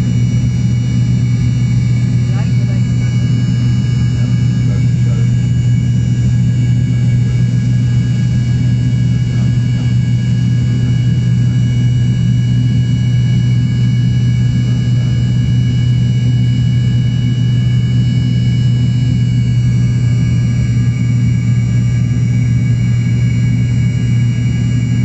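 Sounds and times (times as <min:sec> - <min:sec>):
airplane engines low drone: 0:00.0 - 0:25.0
steady whining tones: 0:00.0 - 0:25.0.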